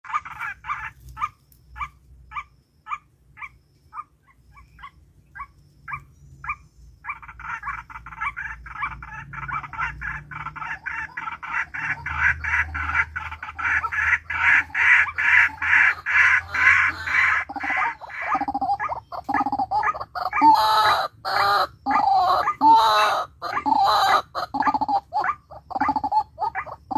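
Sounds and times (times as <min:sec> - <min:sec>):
bird calls: 0:00.0 - 0:26.9.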